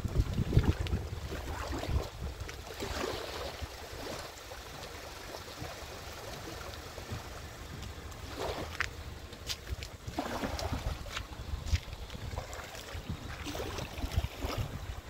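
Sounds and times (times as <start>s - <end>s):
wind on microphone: 0.0s - 4.4s, 7.0s - 15.0s
water lapping and splashing: 0.0s - 15.0s.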